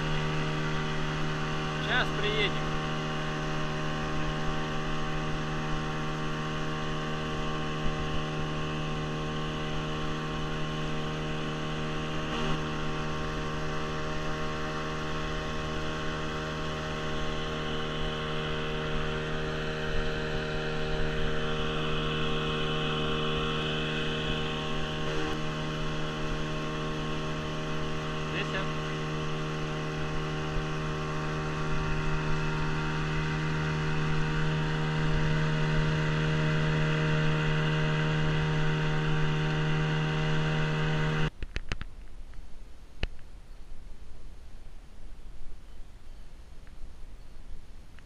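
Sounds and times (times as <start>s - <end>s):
outboard motor droning: 0.0s - 41.8s.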